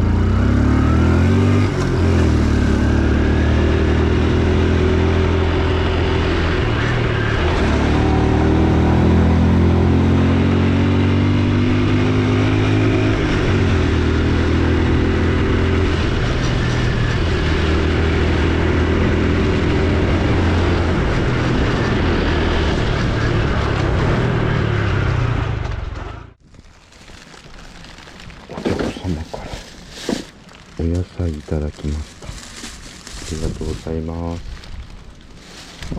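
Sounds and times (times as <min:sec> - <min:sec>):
road and wind noise: 0:00.0 - 0:35.9.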